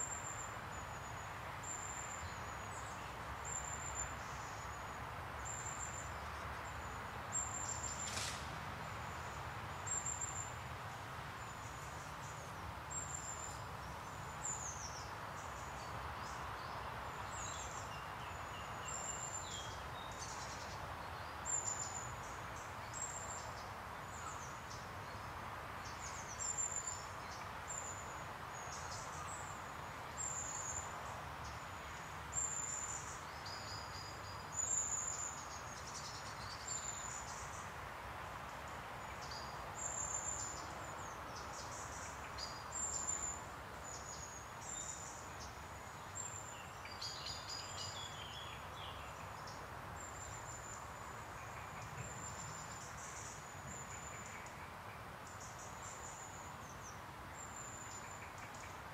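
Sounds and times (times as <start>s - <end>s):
low background noise: 0.0s - 58.9s.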